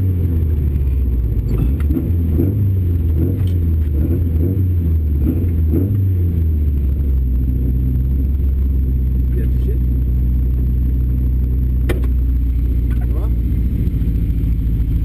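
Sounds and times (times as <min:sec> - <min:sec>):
car engine at low revs: 0:00.0 - 0:15.0.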